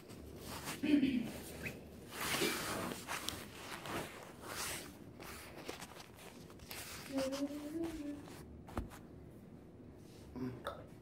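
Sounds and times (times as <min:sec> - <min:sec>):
clothing and camera handling rustle: 0:00.0 - 0:09.0.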